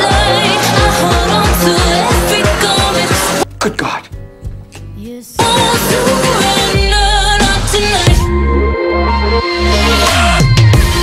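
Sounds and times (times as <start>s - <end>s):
electronic dance music: 0.0s - 3.5s, 5.4s - 11.0s.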